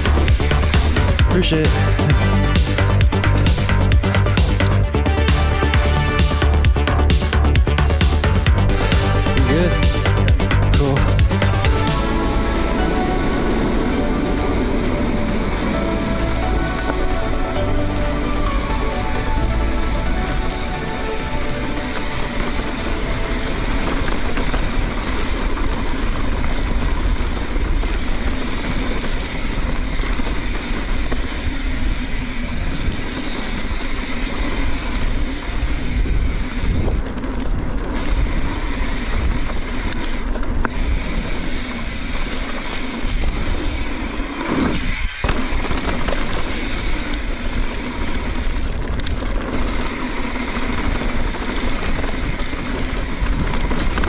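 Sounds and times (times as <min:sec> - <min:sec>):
bicycle drivetrain rattle: 0:00.0 - 0:54.0
bike tyres on dirt: 0:00.0 - 0:54.0
wind noise on microphone: 0:00.0 - 0:54.0.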